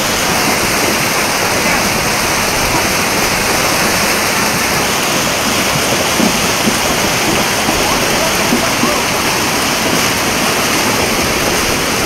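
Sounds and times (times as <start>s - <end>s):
floodwater rushing down a street: 0.0s - 12.0s.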